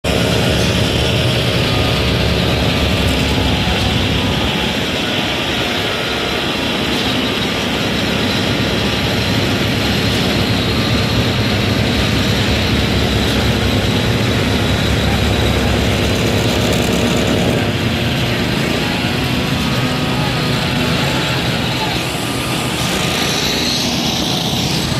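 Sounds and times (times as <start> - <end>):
concrete machinery engine running: 0.0 - 24.9.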